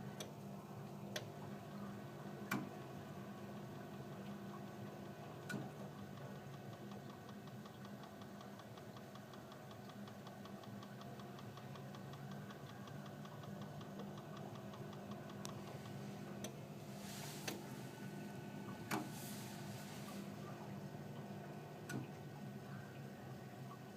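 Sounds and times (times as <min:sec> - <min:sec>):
fan hum: 0:00.0 - 0:23.8.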